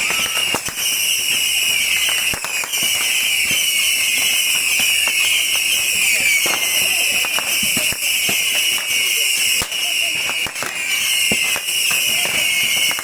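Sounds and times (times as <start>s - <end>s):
rockets and firecrackers cracking: 0.0s - 13.0s
rockets shrieking whistle: 0.0s - 13.0s.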